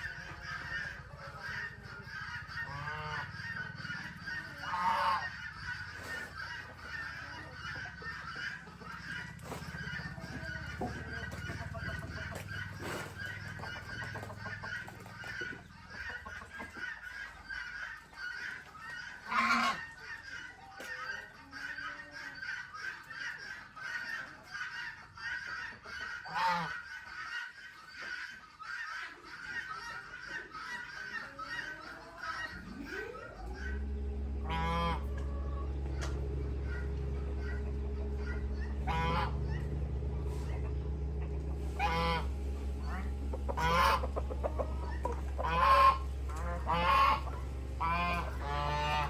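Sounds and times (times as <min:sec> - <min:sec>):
low steady hum: 0:00.0 - 0:27.0, 0:30.0 - 0:49.0
poultry calling and chattering: 0:00.0 - 0:49.0.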